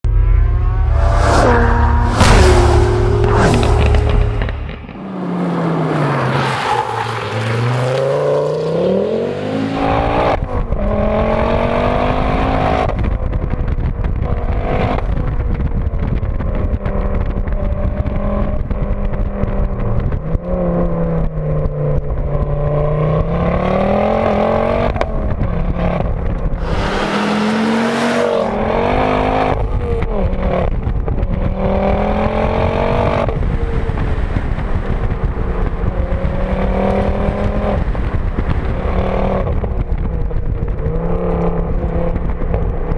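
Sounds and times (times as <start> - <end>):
car engine accelerating: 0.0 - 15.6, 20.4 - 42.9.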